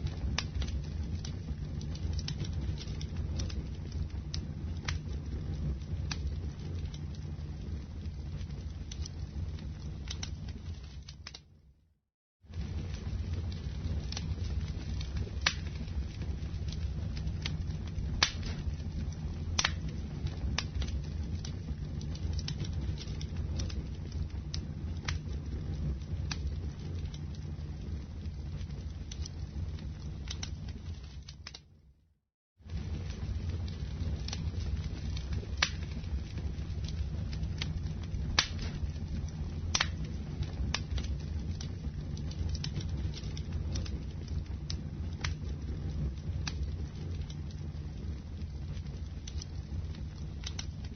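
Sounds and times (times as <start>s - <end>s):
fire crackling and popping: 0.0s - 11.8s, 12.5s - 32.0s, 32.6s - 50.9s
low rumble of flames: 0.0s - 50.9s.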